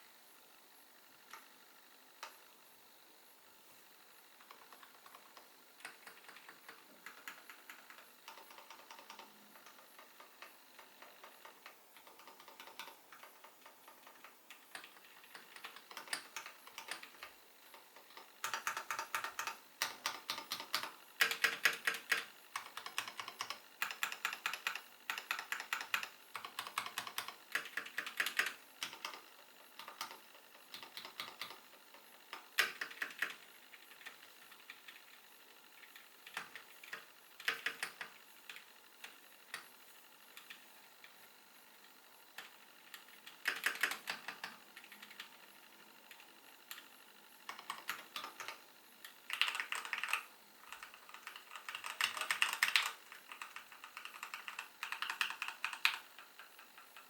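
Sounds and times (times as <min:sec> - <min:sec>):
mechanical keyboard typing clacks: 0:04.4 - 0:35.3, 0:35.9 - 0:39.7, 0:42.4 - 0:45.4, 0:46.1 - 0:57.0.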